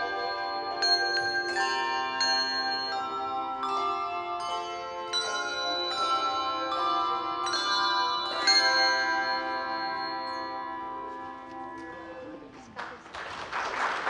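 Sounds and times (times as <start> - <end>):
handbells ringing in chords: 0.0 - 12.4.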